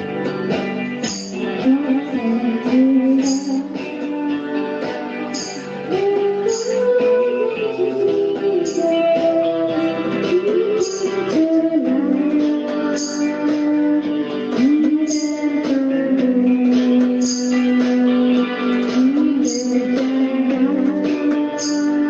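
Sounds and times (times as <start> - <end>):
guitar music with sliding melody: 0.0 - 22.0.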